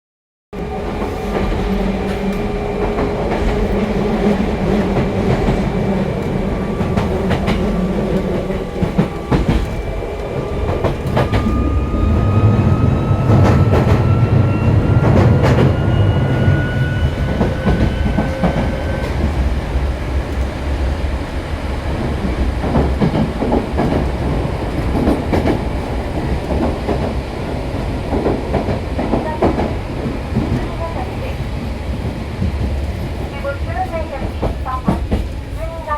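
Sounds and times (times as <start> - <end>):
train rail noise: 0.6 - 35.9.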